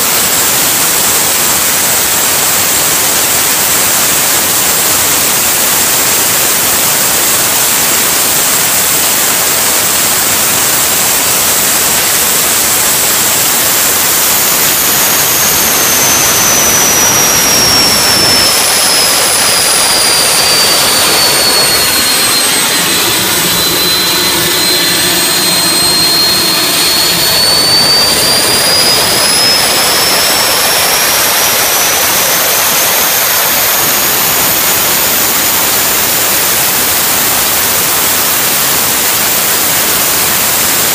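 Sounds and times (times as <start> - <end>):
gas turbine running with whine: 0.0 - 40.9.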